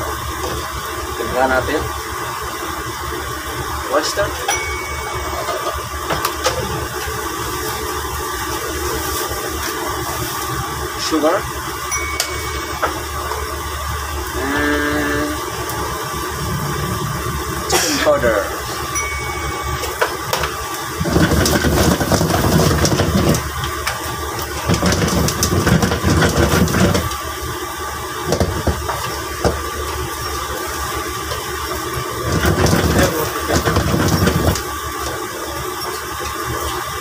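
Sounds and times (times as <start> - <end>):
food sizzling in a wok: 0.0 - 37.0
gas wok burner roar: 0.0 - 37.0.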